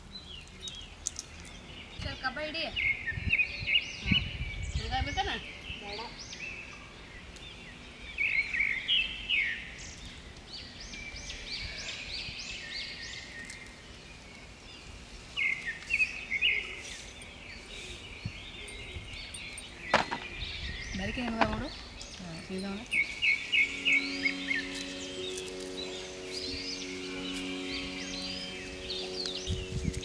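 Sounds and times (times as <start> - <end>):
birds chirping: 0.0 - 30.0
faint background hiss: 0.0 - 30.0.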